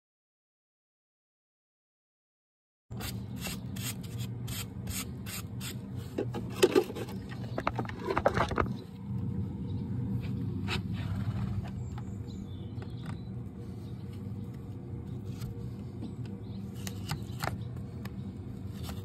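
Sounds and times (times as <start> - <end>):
steady low hum: 2.9 - 19.0.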